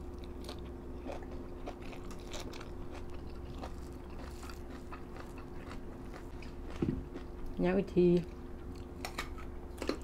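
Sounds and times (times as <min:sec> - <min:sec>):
chewing and crunching food: 0:00.0 - 0:10.0.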